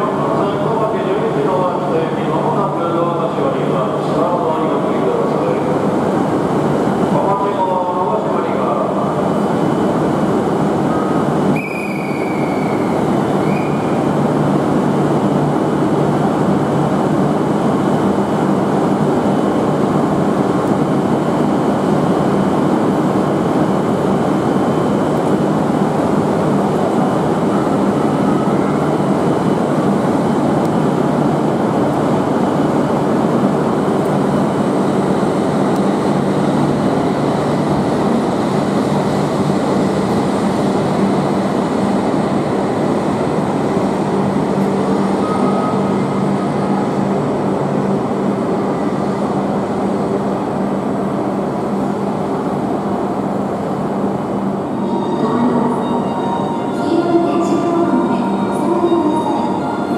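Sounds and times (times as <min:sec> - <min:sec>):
train rail noise: 0:00.0 - 0:59.9.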